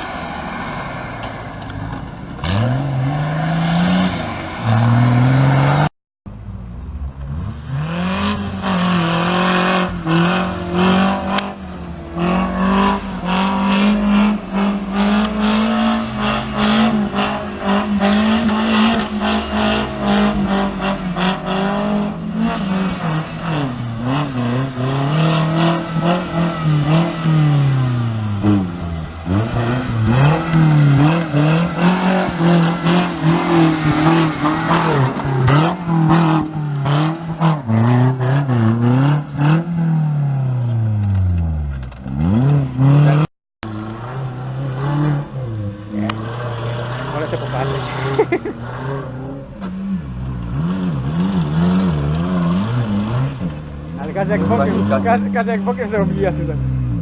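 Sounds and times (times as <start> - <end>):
off-road engine revving hard: 0.0 - 5.9, 7.2 - 57.0.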